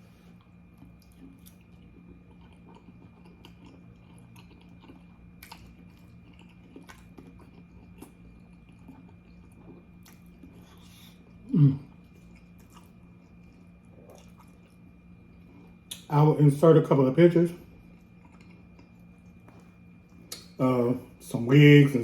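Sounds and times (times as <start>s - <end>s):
person chewing food: 0.0s - 16.1s, 17.6s - 20.6s.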